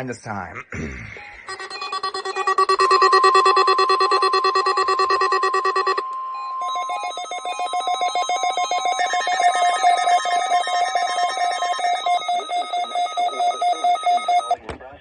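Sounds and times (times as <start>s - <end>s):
steady alarm tone: 1.2s - 14.6s
pulsing electronic warble: 1.4s - 14.6s.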